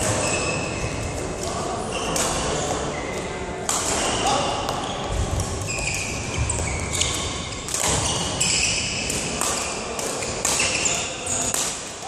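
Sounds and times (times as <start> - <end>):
shoes squeaking on hall floor: 0.0 - 12.0.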